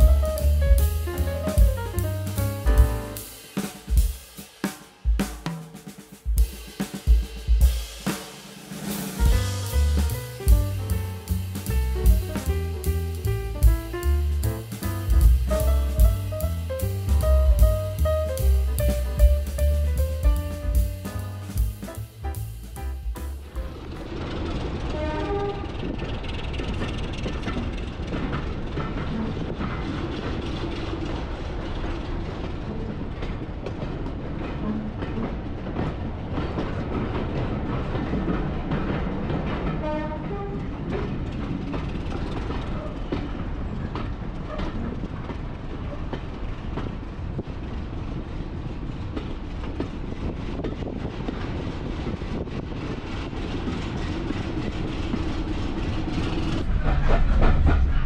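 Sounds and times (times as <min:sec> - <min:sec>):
train rumbling along track: 0:00.0 - 0:58.0
wheels clicking over rail joints: 0:09.2 - 0:58.0.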